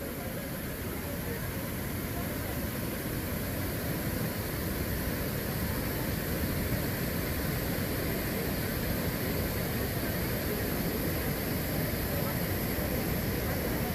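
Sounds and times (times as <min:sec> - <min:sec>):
fast-flowing river water: 0:00.0 - 0:13.9.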